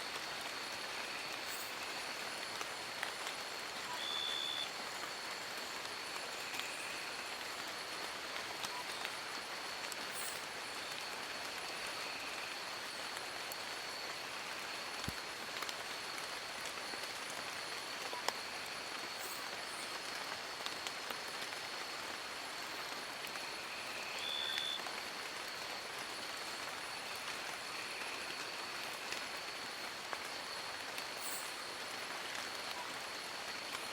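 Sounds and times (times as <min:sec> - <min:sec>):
rain falling on leaves: 0:00.0 - 0:33.9.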